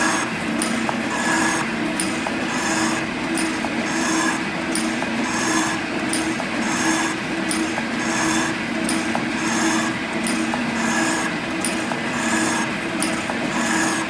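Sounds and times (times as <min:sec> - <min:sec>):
machine drive hum: 0:00.0 - 0:14.0
tool bit scraping iron: 0:00.0 - 0:14.0
metal shaper stroke click: 0:00.1 - 0:14.0.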